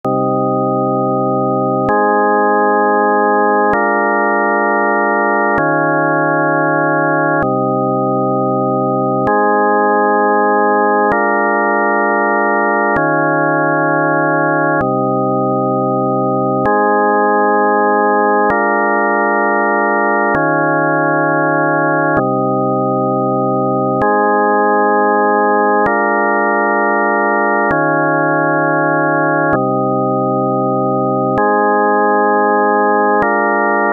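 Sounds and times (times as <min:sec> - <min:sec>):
synthesizer organ chords: 0:00.0 - 0:33.9.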